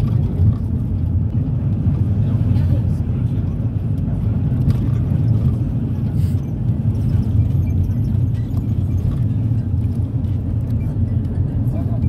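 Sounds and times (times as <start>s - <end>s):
minibus engine rumble: 0.0s - 12.0s.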